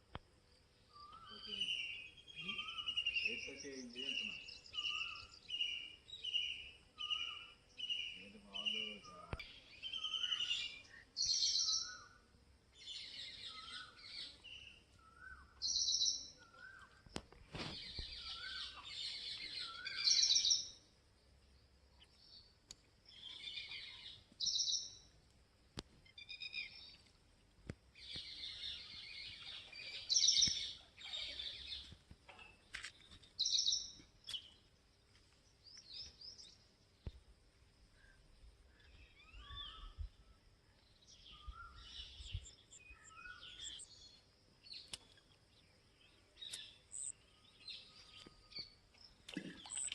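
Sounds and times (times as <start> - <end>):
birds chirping and singing: 0.8 - 20.8, 23.1 - 25.1, 28.0 - 34.8, 38.0 - 49.9.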